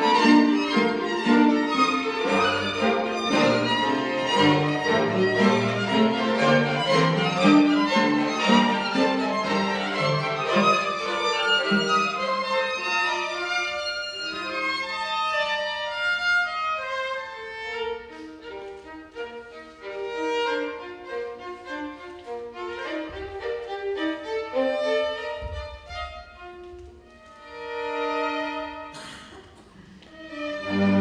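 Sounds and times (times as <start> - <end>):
chamber string orchestra playing: 0.0 - 31.0.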